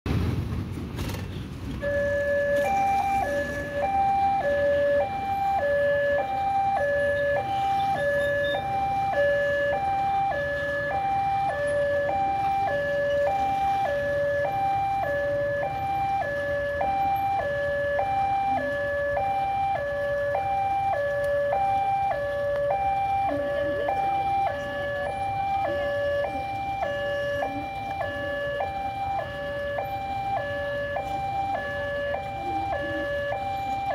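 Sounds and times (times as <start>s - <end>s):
idling traffic: 0.1s - 33.9s
motorcycles: 0.1s - 33.9s
two-tone crossing alarm: 1.8s - 33.9s.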